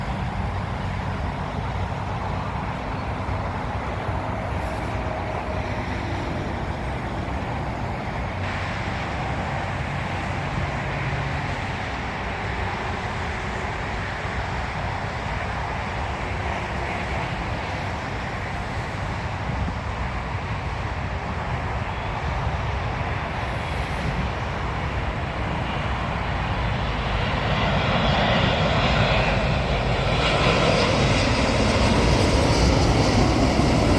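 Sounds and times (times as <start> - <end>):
jet engines droning: 0.0 - 33.9.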